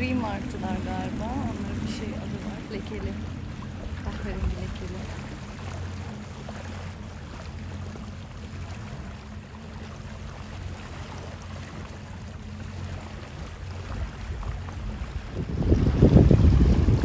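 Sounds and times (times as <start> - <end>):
diesel engine droning: 0.0 - 17.0
water washing along hull: 0.0 - 17.0.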